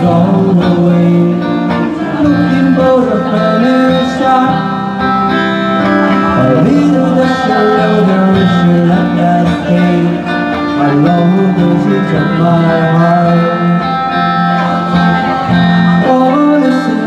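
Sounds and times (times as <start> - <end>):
guitar: 0.0 - 17.0
live band playing pop song: 0.0 - 17.0.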